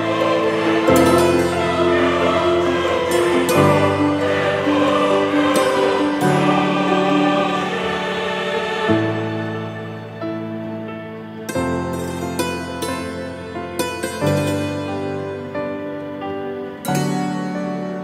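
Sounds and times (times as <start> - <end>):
choir-like background music: 0.0 - 18.0.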